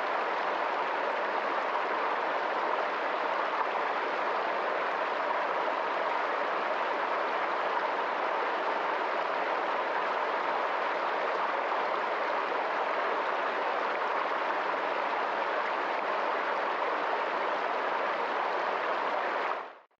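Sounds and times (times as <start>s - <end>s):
rushing water: 0.0s - 19.8s.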